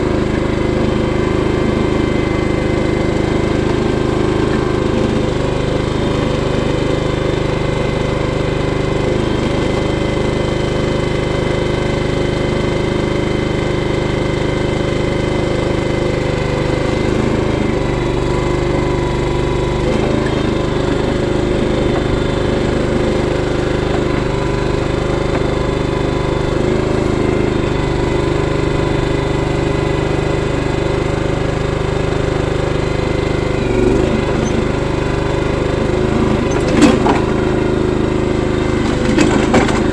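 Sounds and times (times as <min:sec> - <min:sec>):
trencher engine running: 0:00.0 - 0:39.9.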